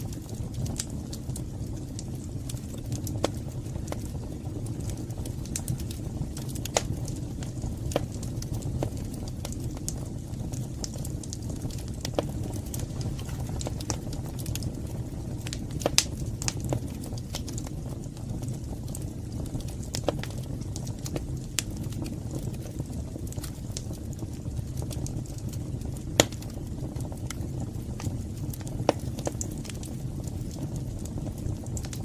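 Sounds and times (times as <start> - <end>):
fire flames rumbling: 0.0 - 32.0
wood fire crackling and popping: 0.0 - 32.0.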